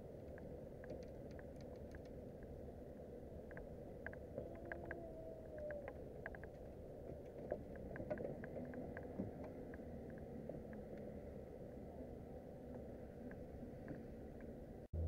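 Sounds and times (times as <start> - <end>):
wind and water wash: 0.0 - 14.9.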